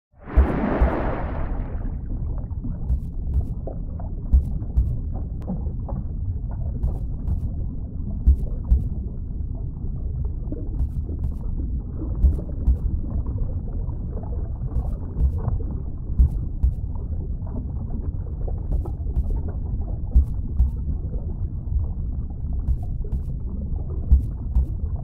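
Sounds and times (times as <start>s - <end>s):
low rumbling drone: 0.2s - 25.0s
soft low booms: 0.2s - 25.0s.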